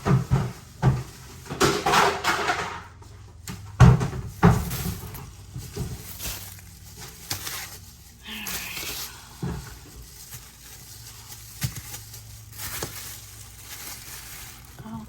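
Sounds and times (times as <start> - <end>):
plastic garbage bag rustling: 0.0 - 15.0.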